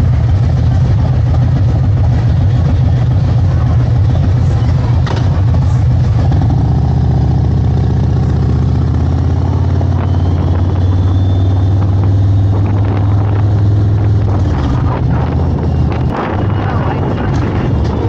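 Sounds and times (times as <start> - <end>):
motorcycle engine and exhaust: 0.0 - 18.0.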